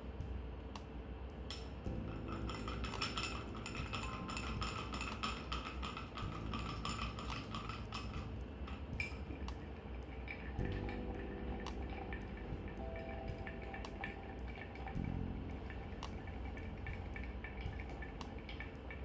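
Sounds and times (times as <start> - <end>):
spoon stirring ice in glass: 2.0 - 19.0.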